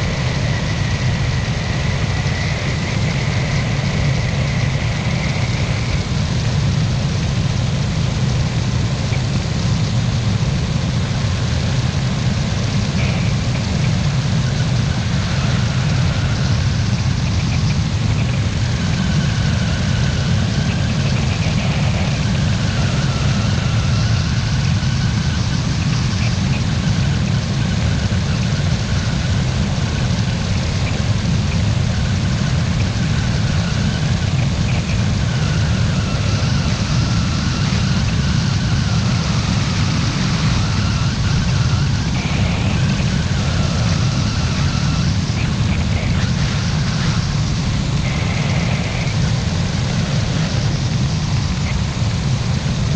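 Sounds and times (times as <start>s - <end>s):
heavy wind rush: 0.0s - 52.9s
microlight engine and propeller drone: 0.0s - 52.9s.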